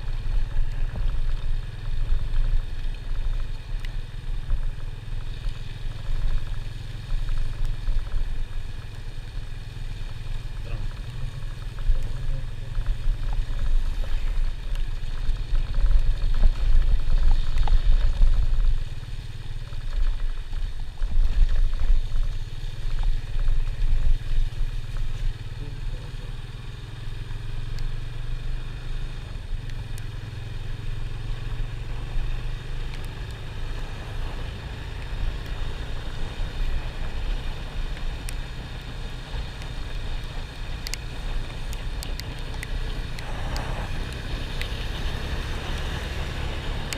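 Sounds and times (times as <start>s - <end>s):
vehicle rumbling on road: 0.0s - 46.9s.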